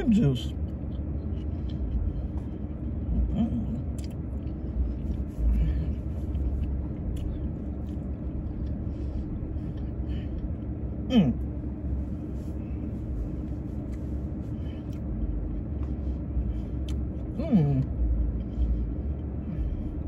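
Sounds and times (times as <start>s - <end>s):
person eating: 0.7s - 20.0s.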